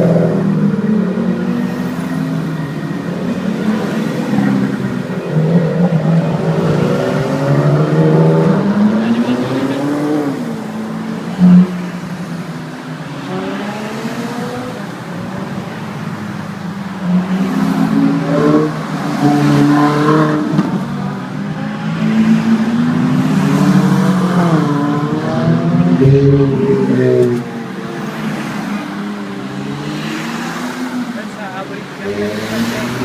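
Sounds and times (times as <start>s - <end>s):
sports car engines revving: 0.0s - 33.0s.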